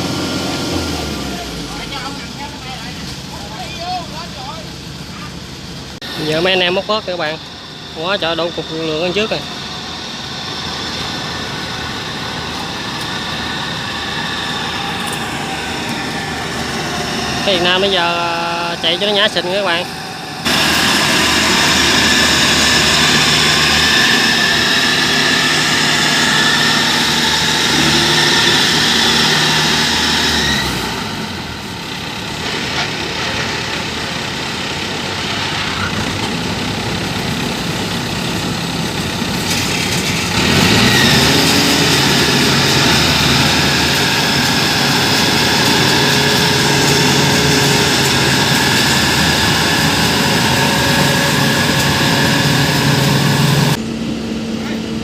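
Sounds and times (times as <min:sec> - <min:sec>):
diesel engine running hard: 0:00.0 - 0:55.0.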